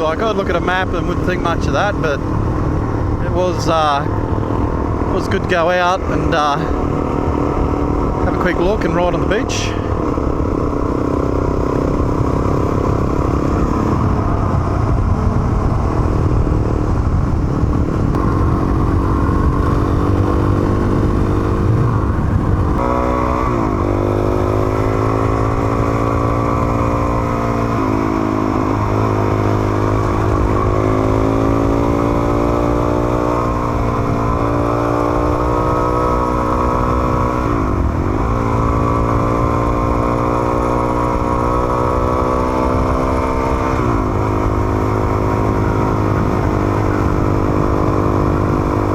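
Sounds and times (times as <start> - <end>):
motorcycle engine revving: 0.0 - 48.9
wind and road noise: 0.0 - 48.9.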